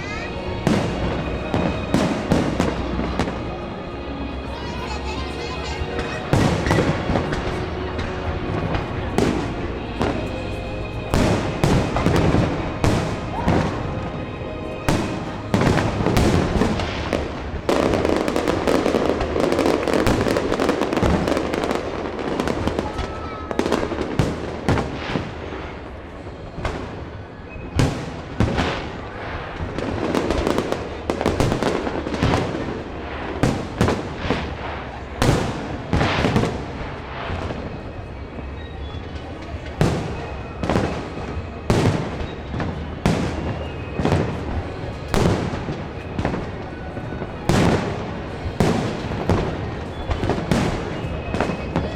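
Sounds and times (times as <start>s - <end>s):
firework bangs and crackles: 0.0s - 51.9s.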